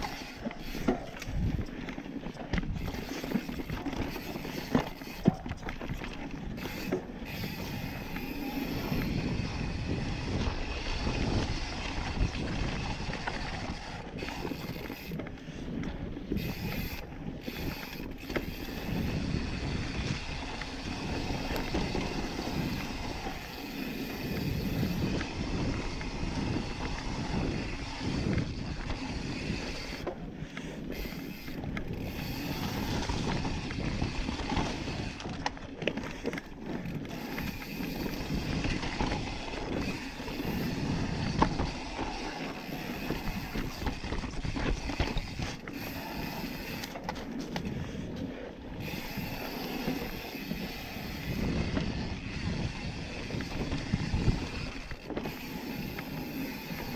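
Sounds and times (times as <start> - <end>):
bike chain and frame rattling: 0.0 - 56.9
bike tyres rumbling over dirt: 0.0 - 56.9
wind buffeting microphone: 0.0 - 56.9.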